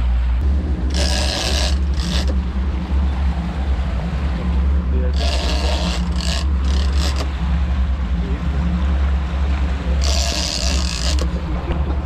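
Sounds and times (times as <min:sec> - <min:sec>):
outboard motors rumbling: 0:00.0 - 0:12.0.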